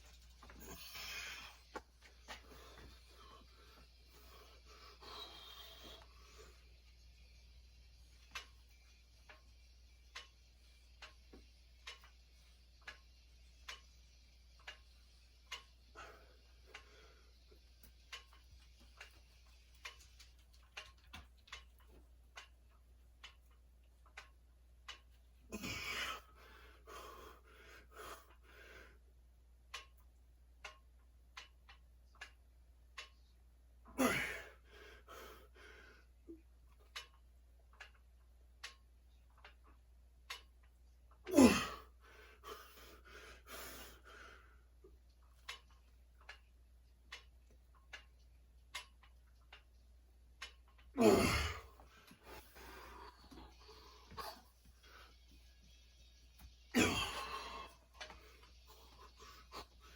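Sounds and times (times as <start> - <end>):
faint ticking: 0.0 - 59.9.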